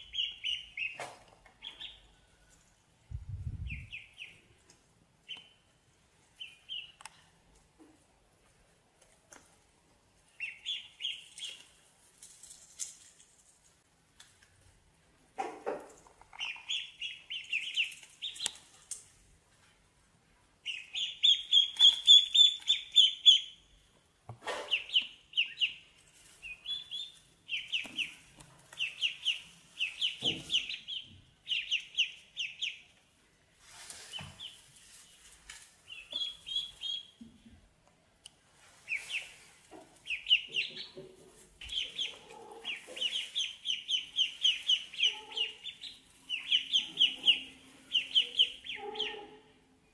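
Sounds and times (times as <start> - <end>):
ducklings peeping: 0.0 - 2.7, 3.4 - 7.6, 9.6 - 12.0, 15.3 - 19.3, 20.5 - 23.8, 24.4 - 33.2, 34.1 - 37.6, 38.6 - 49.6.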